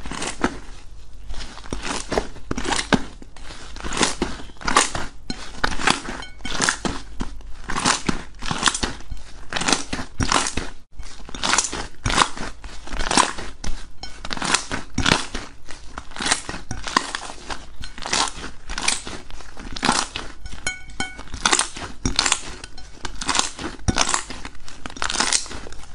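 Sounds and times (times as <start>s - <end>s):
slime squishing crackly: 0.0s - 25.9s.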